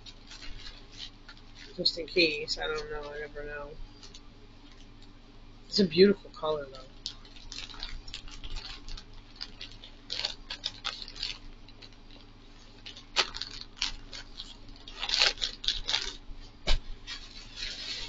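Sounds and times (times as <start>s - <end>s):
plastic bag crinkling: 0.0s - 5.1s, 6.7s - 18.0s.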